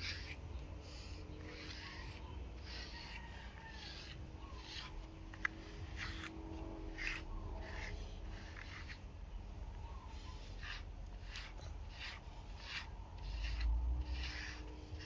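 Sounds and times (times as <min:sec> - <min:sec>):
grooming brush rasping through fur: 0:00.0 - 0:15.0.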